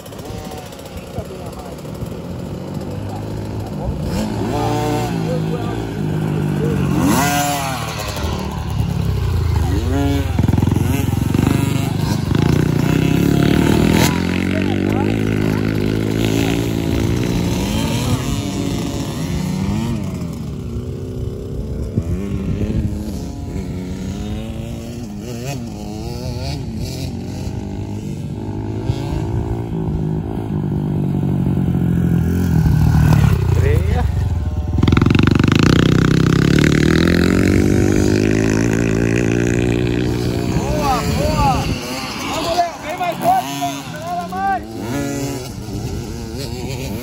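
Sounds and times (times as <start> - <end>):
motocross bike engines revving: 0.0 - 47.0.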